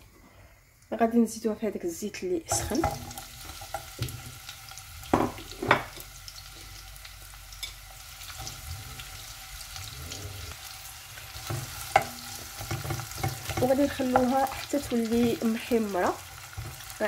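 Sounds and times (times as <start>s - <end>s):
onions sizzling in hot oil: 0.6s - 17.0s.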